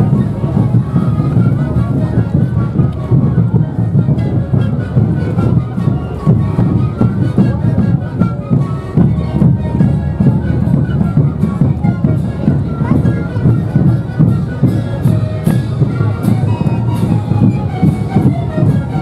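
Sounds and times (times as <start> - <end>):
bass drums: 0.0 - 19.0
panpipes playing melody: 0.0 - 19.0
snare drums: 0.0 - 19.0.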